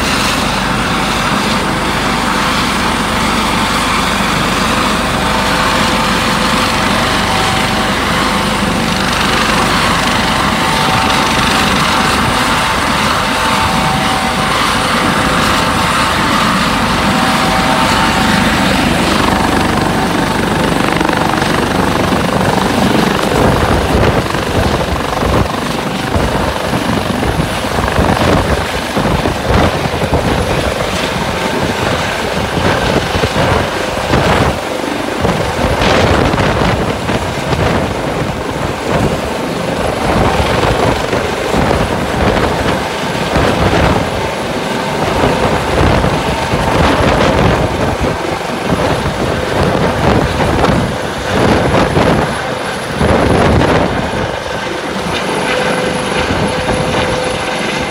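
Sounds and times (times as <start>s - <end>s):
helicopter rotor blade chop: 0.0s - 57.9s
helicopter turbine whine: 0.0s - 57.9s.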